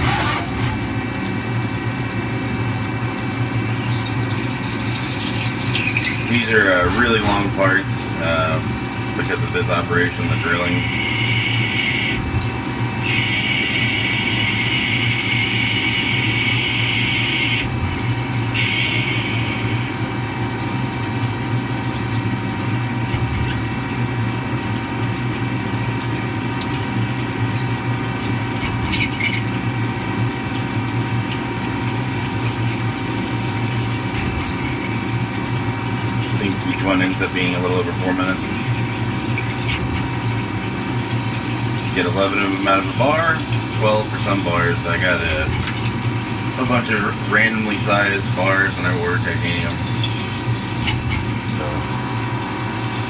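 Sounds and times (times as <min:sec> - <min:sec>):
coolant splashing: 0:00.0 - 0:53.0
machine hum: 0:00.0 - 0:53.0.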